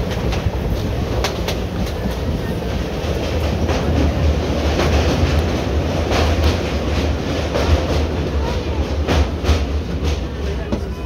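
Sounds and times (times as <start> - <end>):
train coach rumble: 0.0 - 11.0.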